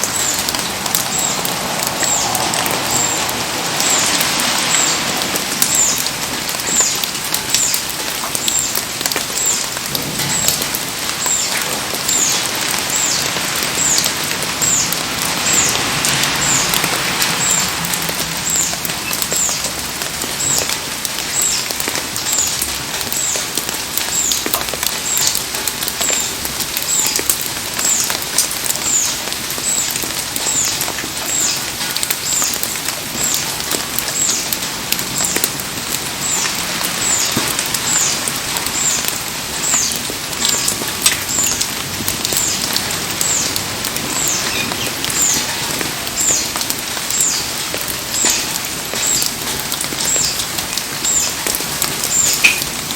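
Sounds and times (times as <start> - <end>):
campfire popping and crackling: 0.0 - 52.9
heavy rain falling: 0.0 - 52.9.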